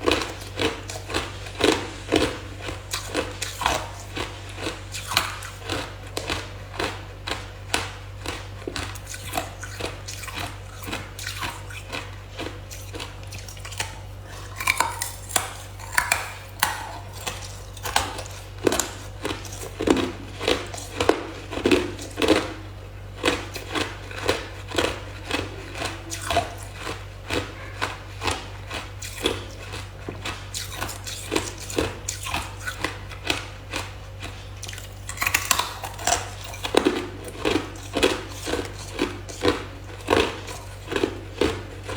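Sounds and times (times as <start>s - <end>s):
teeth crunching ice: 0.0s - 41.9s.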